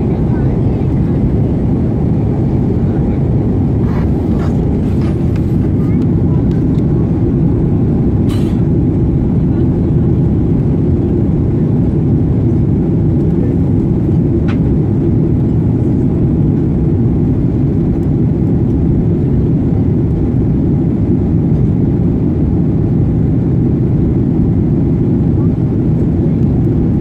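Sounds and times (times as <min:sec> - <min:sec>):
jet airliner cabin noise: 0:00.0 - 0:27.0.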